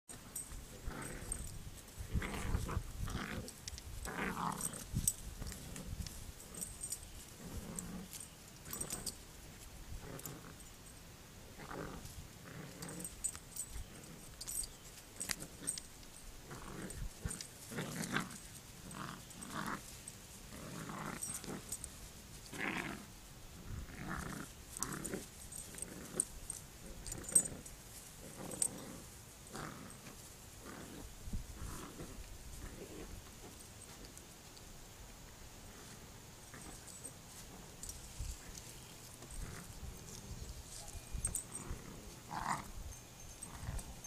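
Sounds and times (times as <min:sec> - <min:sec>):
dogs growling in play: 0:00.2 - 0:34.3, 0:35.6 - 0:42.8, 0:43.4 - 0:44.0.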